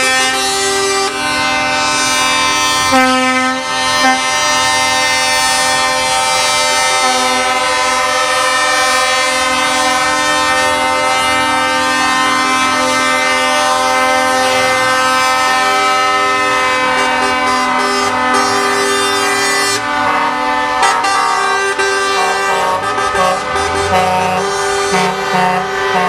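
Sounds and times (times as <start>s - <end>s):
truck air horns chord: 0.0s - 26.0s.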